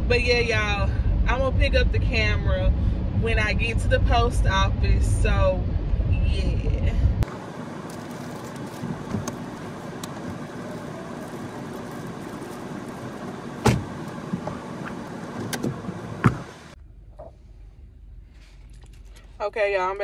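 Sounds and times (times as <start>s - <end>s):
car idling: 0.0s - 20.0s
outdoor noise: 0.0s - 20.0s.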